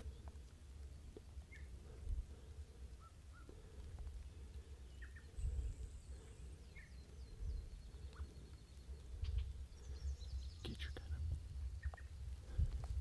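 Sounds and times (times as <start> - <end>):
low rumble on microphone: 0.0 - 13.0
songbirds calling: 0.0 - 13.0.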